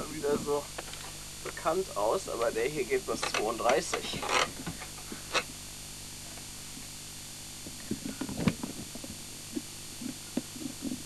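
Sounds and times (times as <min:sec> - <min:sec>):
tape hiss and hum: 0:00.0 - 0:11.0.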